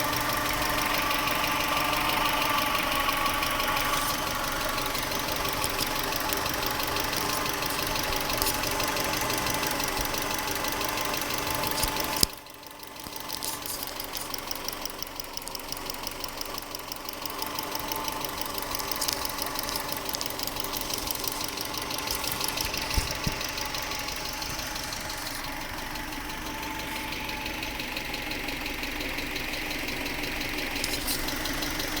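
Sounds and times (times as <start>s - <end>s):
car engine running: 0.0s - 32.0s
rapid engine ticking: 0.0s - 32.0s.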